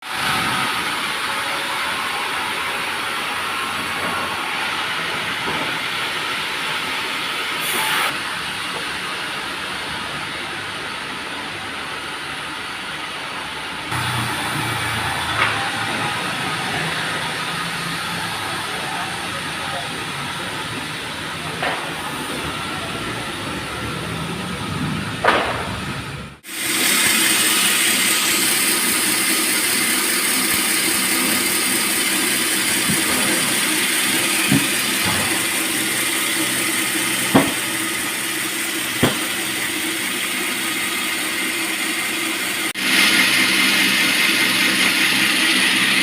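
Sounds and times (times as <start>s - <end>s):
sawmill machinery hissing: 0.0s - 46.0s.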